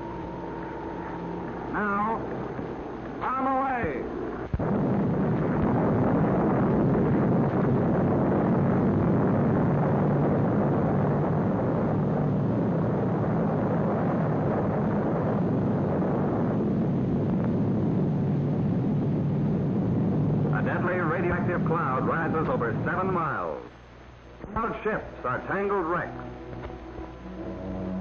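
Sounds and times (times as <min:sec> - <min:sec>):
deep rumbling explosion roar: 0:00.0 - 0:28.0.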